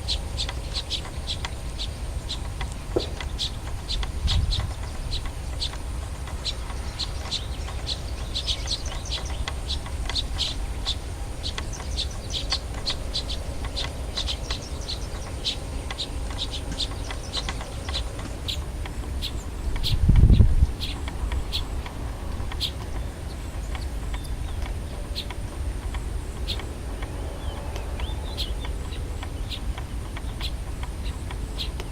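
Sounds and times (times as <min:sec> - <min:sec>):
small birds chirping: 0:00.0 - 0:31.9
steady low rumble: 0:00.0 - 0:31.9.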